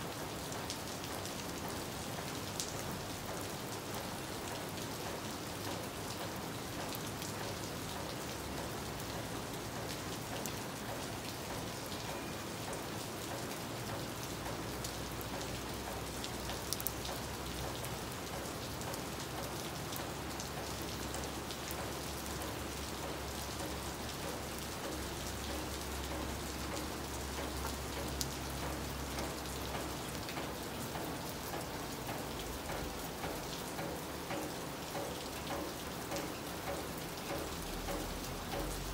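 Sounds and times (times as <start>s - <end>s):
rain drop clicks: 0.0s - 38.9s
steady rain hiss: 0.0s - 38.9s.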